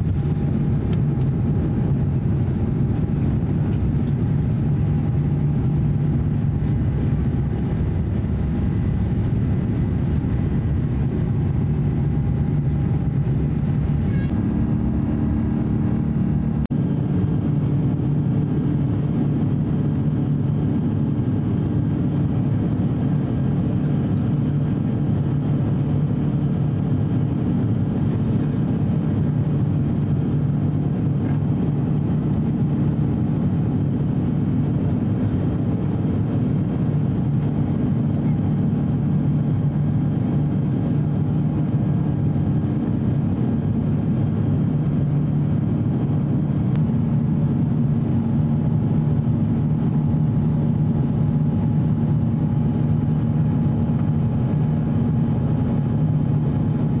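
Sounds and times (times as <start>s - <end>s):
airplane cabin low rumble: 0.0s - 57.0s.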